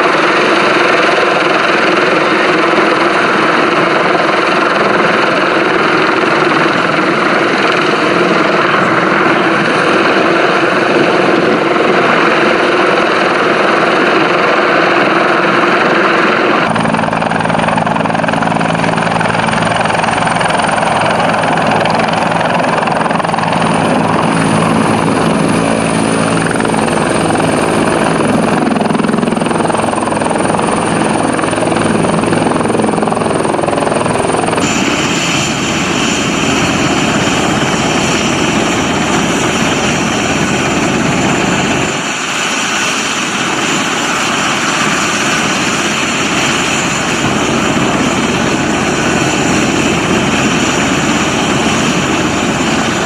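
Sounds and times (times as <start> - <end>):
helicopter rotor and turbine: 0.0 - 53.0
high turbine whine: 0.0 - 53.0.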